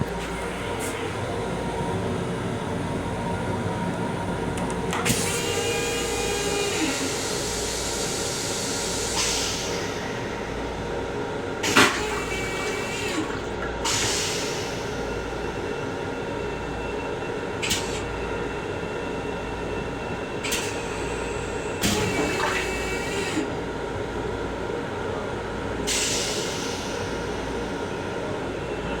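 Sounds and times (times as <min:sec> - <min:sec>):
train car rumble and hum: 0:00.0 - 0:29.0.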